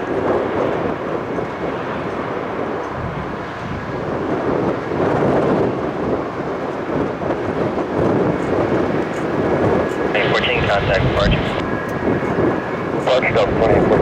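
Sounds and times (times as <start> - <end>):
jet engines rushing rumble: 0.0 - 14.0.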